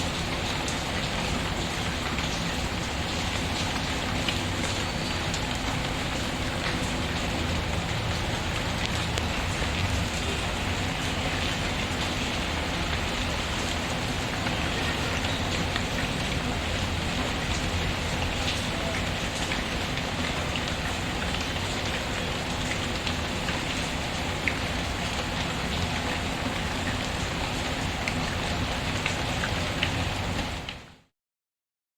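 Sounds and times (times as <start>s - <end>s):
rain patter: 0.0s - 31.1s.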